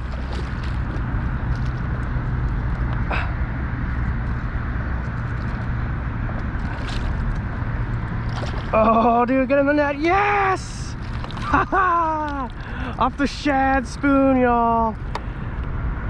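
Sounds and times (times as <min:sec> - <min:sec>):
moving water: 0:00.0 - 0:15.5
wind: 0:00.0 - 0:16.0.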